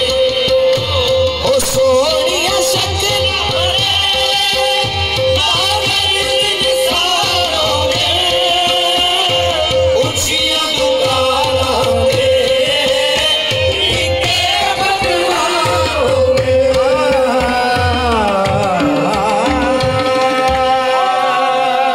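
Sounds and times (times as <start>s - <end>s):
tabla beat: 0.0s - 21.9s
voices singing: 2.3s - 21.9s.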